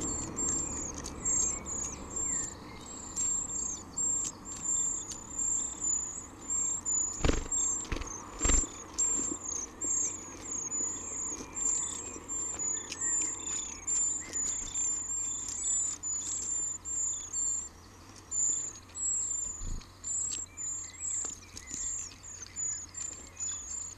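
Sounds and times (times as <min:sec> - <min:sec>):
nestlings begging calls: 0:00.0 - 0:23.9.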